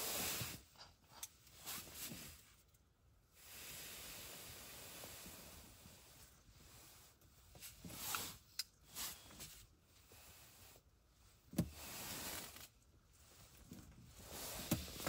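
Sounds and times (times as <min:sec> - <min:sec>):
rustling and shuffling: 0:00.0 - 0:02.9, 0:04.7 - 0:15.0.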